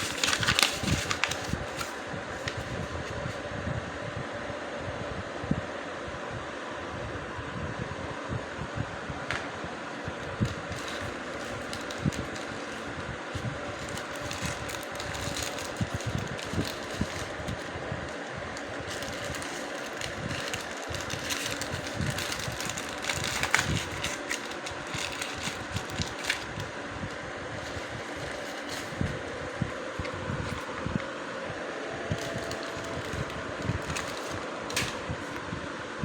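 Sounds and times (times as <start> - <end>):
fan humming: 0.0 - 36.0.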